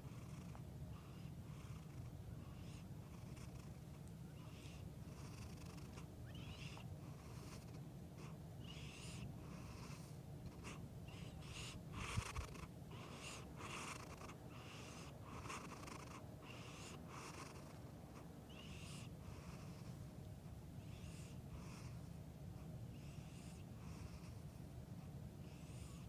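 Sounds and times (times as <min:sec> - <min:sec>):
cat snoring: 0:00.0 - 0:03.8, 0:04.4 - 0:17.8, 0:18.5 - 0:20.0, 0:20.8 - 0:22.0, 0:22.9 - 0:24.5, 0:25.4 - 0:26.0.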